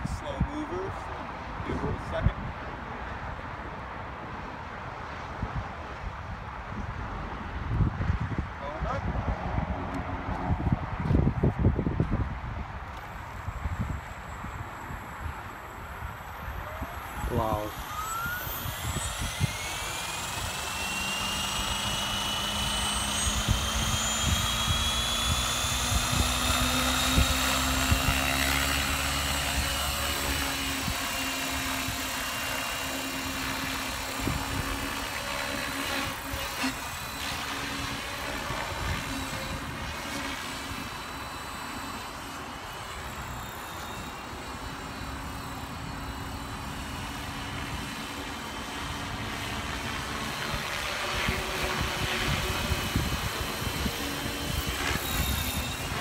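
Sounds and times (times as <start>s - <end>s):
rc helicopter motor and rotor whine: 5.8s - 56.0s.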